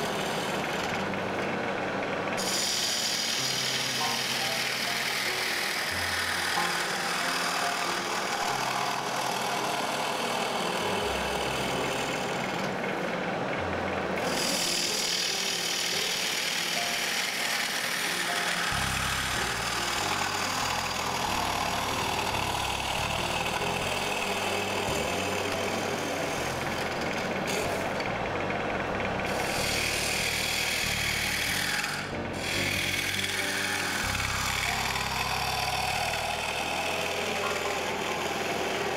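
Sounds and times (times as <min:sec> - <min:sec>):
gouge scraping spinning wood: 0:00.0 - 0:38.9
wood lathe running: 0:00.0 - 0:38.9.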